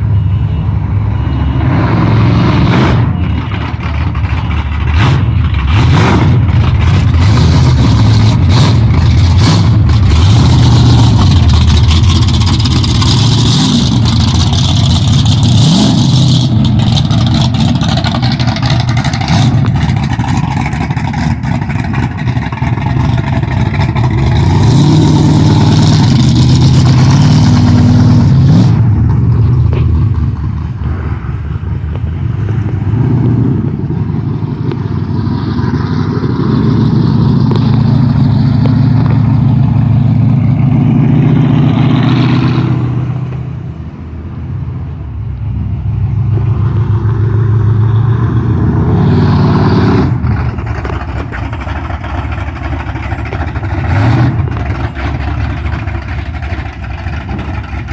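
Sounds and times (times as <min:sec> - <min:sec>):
vehicle engine accelerating: 0:00.0 - 0:57.9.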